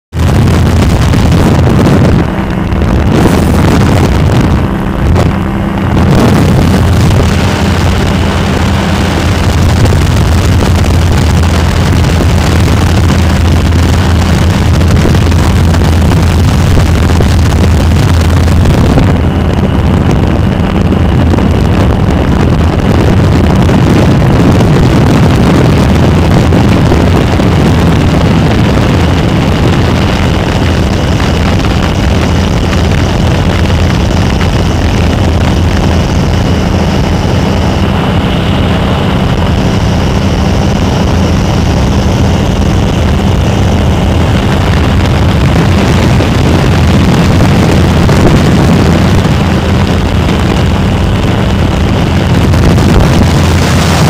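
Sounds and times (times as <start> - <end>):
aircraft engine and propeller: 0.0 - 54.0
wind rushing over microphone: 0.0 - 54.0.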